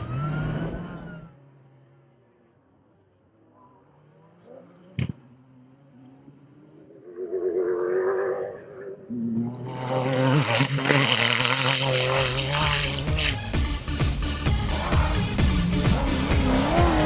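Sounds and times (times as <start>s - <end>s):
truck engine at high revs: 0.0s - 2.4s, 3.8s - 17.0s.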